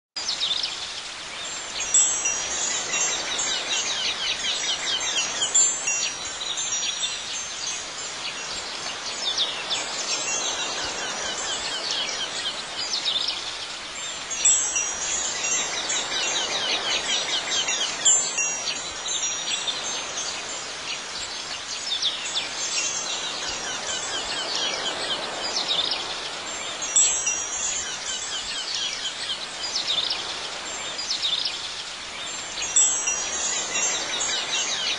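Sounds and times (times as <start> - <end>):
wind chimes ringing: 1.4 - 34.9.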